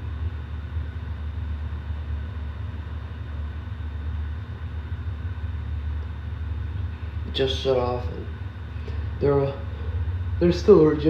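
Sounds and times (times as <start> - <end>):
air conditioner units humming: 0.0 - 11.0
faint steady whines: 0.0 - 11.0.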